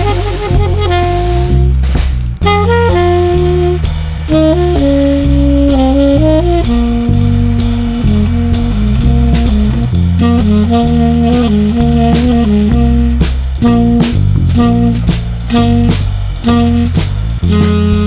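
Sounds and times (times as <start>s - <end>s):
jazzy tune with saxophone: 0.0s - 18.0s.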